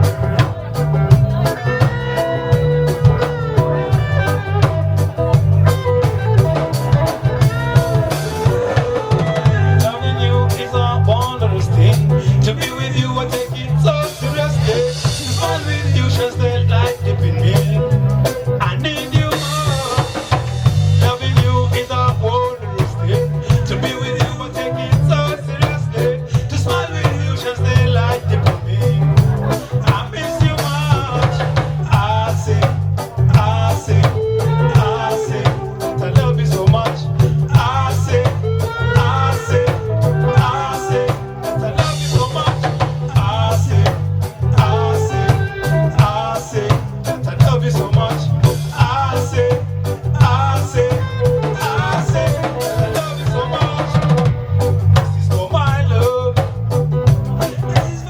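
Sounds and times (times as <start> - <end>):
heavy bass line: 0.0 - 58.0
person singing lead vocal: 0.0 - 58.0
reggae band playing: 0.0 - 58.0.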